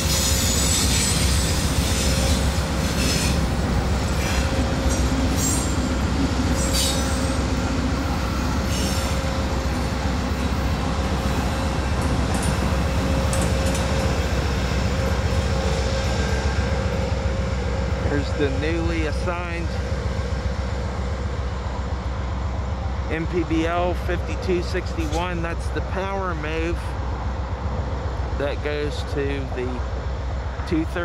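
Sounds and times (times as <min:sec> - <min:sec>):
diesel locomotive engine rumble: 0:00.0 - 0:31.0.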